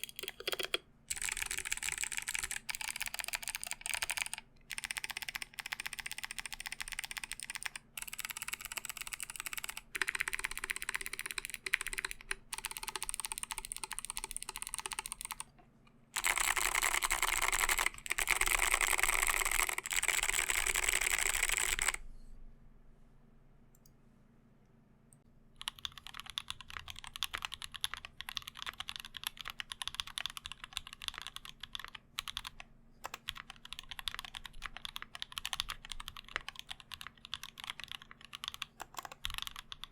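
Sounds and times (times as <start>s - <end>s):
typing on clicky mechanical keyboard: 0.0s - 15.5s, 16.2s - 22.0s, 25.6s - 39.9s
light clacky keyboard typing: 0.0s - 15.6s, 16.2s - 22.0s, 25.6s - 39.9s.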